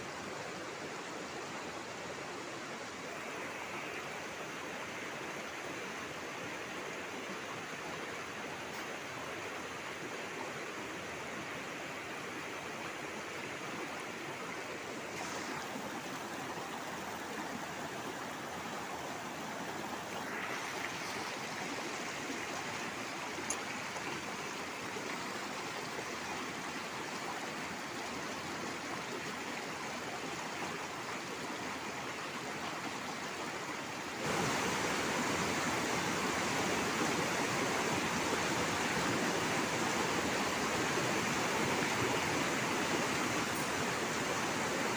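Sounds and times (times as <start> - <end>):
river rushing over stones: 0.0 - 44.9.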